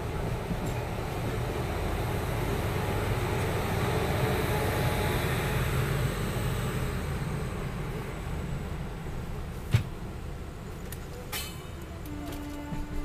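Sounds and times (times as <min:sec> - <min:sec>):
locomotive wheels rumbling on rails: 0:00.0 - 0:13.0.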